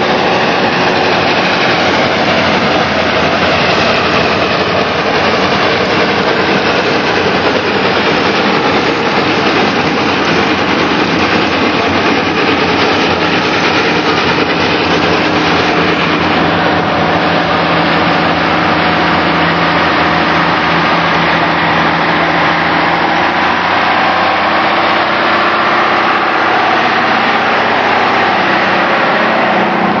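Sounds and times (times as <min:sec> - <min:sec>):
steam traction engine running: 0:00.0 - 0:30.0.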